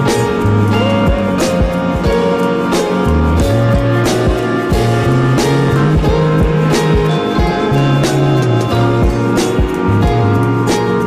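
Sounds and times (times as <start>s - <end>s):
instrumental music with bass and drums: 0.0s - 11.0s.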